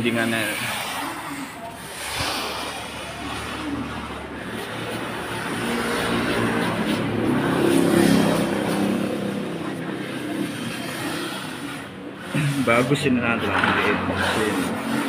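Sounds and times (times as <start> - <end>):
grinding machine motor hum: 0.0 - 15.0
rushing mechanical noise: 0.0 - 15.0.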